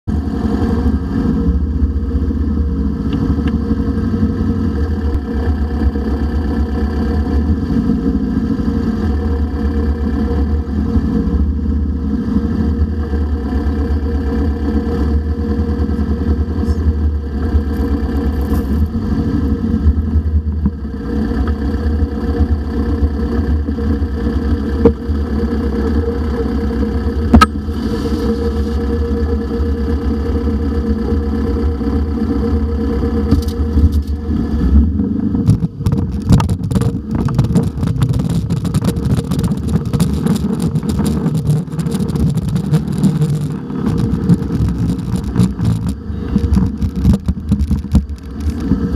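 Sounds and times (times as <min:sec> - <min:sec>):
dune buggy engine running: 0:00.0 - 0:48.9.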